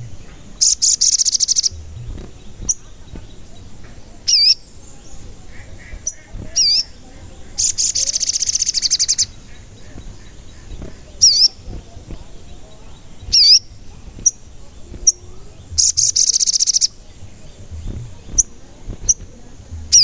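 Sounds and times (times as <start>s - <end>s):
songbird chirps: 0.0s - 20.0s
songbird rapid trill: 0.0s - 20.0s.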